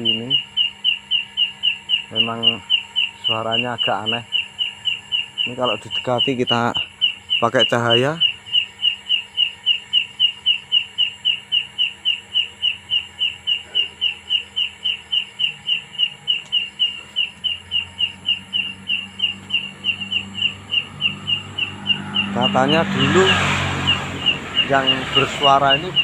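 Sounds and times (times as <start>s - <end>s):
animal chirping: 0.0s - 26.0s.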